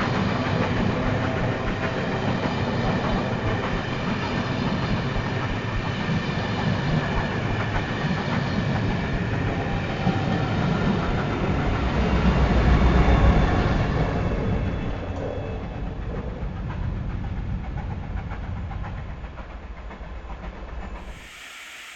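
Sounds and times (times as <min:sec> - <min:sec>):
train rumbling past: 0:00.0 - 0:21.9.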